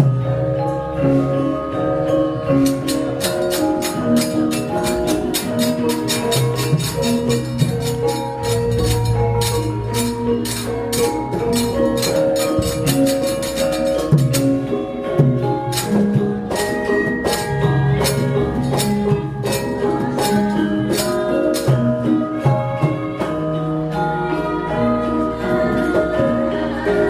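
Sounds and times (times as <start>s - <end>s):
gamelan ensemble playing: 0.0s - 27.0s.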